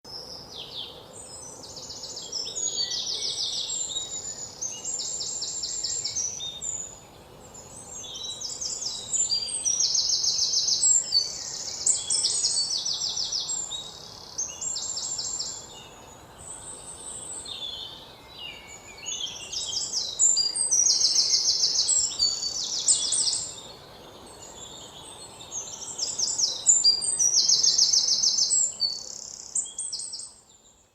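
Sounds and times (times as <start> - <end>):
birds singing: 0.1 - 30.9
faint background hiss: 0.1 - 30.9.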